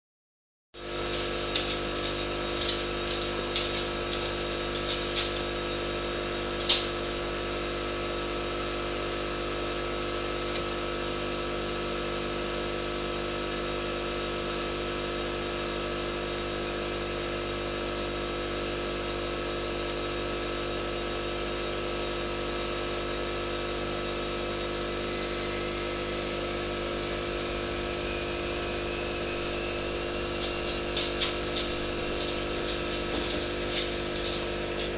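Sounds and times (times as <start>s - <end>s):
aquarium pump humming: 0.8s - 34.9s.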